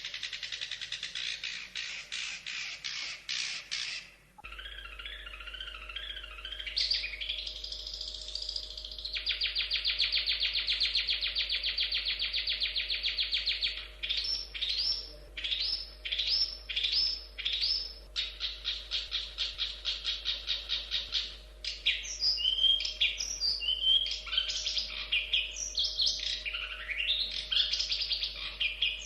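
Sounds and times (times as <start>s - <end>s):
bird singing warbles and trills: 0.0s - 29.0s
faint steady hum: 0.0s - 29.0s.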